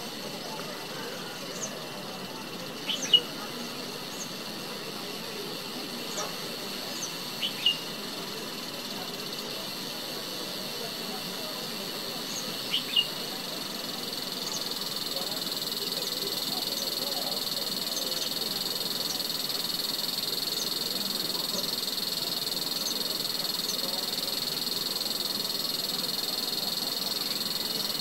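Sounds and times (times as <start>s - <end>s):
cicada buzzing: 0.0s - 28.0s.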